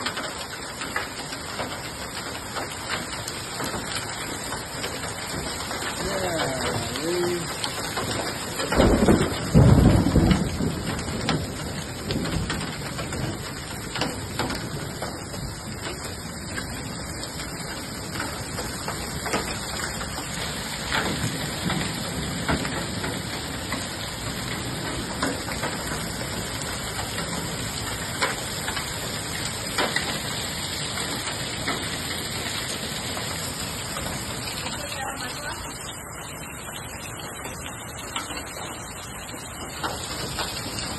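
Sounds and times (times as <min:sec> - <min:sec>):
hailstones striking hard surfaces: 0:00.0 - 0:40.9
heavy rain downpour: 0:00.0 - 0:40.9.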